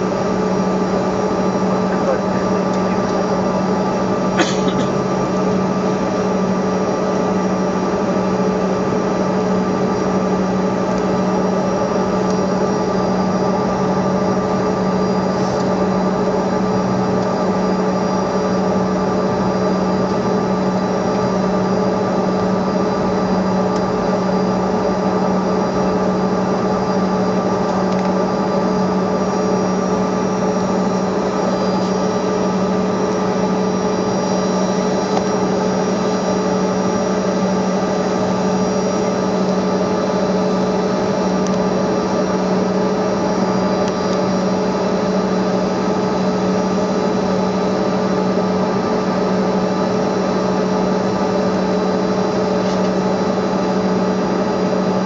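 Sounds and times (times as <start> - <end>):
faint high whine: 0.0 - 55.0
jet engines humming: 0.0 - 55.0.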